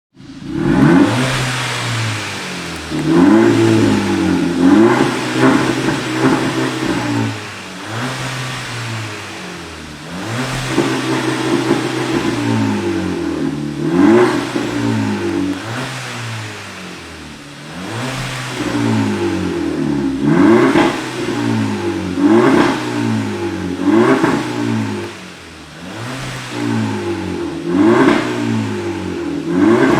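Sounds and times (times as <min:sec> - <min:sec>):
car engine revving: 0:00.1 - 0:29.9.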